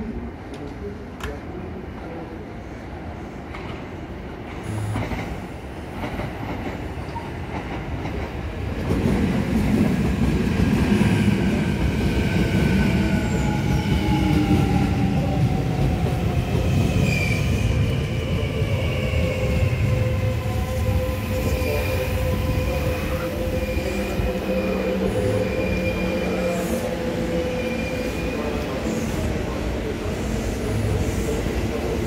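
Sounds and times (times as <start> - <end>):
falling whines of train: 2.6 - 32.0
train rolling noise: 2.9 - 32.0.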